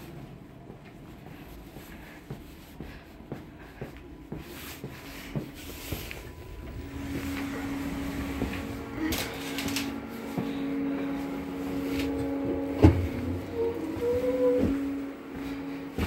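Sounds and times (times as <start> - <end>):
footsteps walking: 0.0 - 16.0
steady hum: 0.0 - 16.0
train interior rumble: 0.0 - 16.0.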